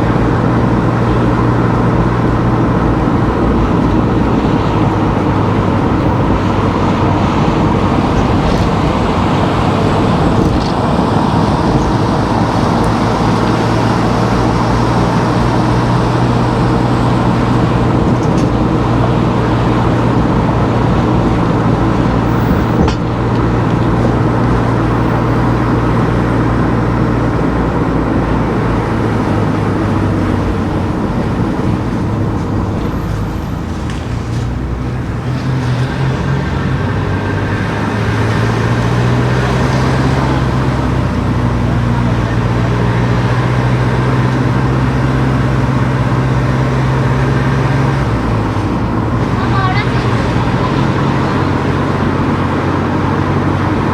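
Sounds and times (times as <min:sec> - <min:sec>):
car engine hum: 0:00.0 - 0:53.9
tyre and road noise: 0:00.0 - 0:53.9.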